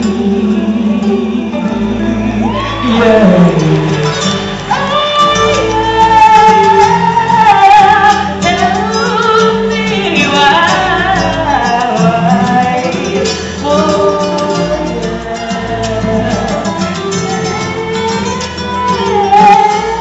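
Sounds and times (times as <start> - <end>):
pop music with wordless vocals: 0.0 - 20.0.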